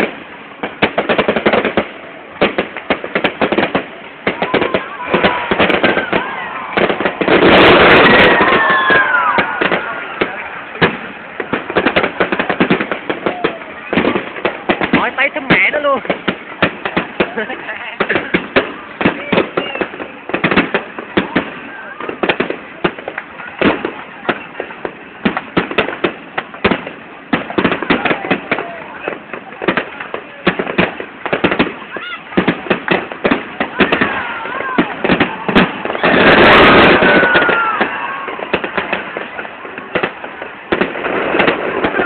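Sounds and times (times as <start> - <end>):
fireworks cracks and bangs: 0.0 - 42.0.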